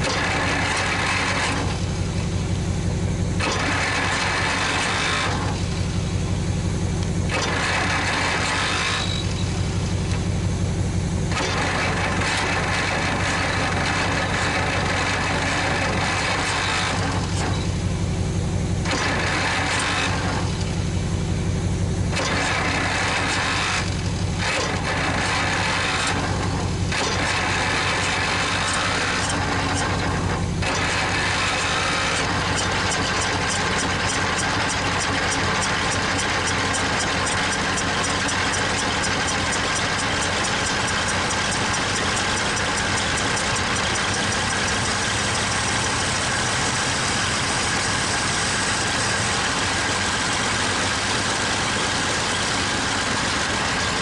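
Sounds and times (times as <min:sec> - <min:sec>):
tractor engine running unevenly: 0:00.0 - 0:54.0.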